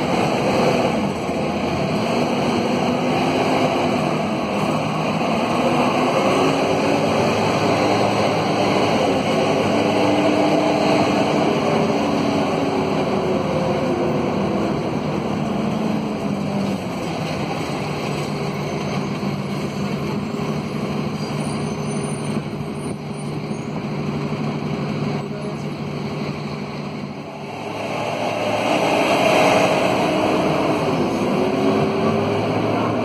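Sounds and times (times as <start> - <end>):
diesel bus engine running: 0.0 - 33.0.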